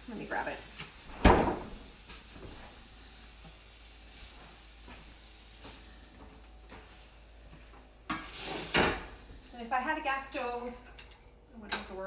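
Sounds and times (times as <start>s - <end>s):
chicken sizzling: 0.0s - 10.6s.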